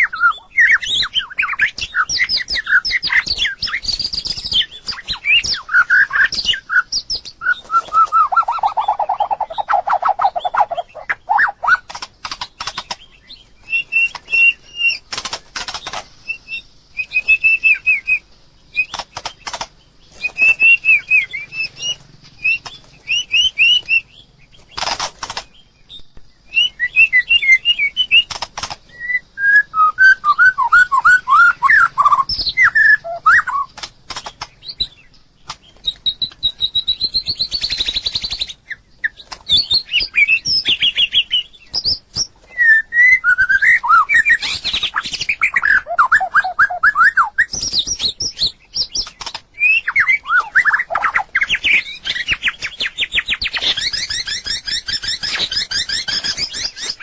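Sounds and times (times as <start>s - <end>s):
bird singing whistled phrases: 0.0s - 11.9s, 13.0s - 15.1s, 16.2s - 19.1s, 20.1s - 24.3s, 25.9s - 28.3s, 28.9s - 33.8s, 35.9s - 57.0s
harsh noisy bird sounds: 0.0s - 57.0s.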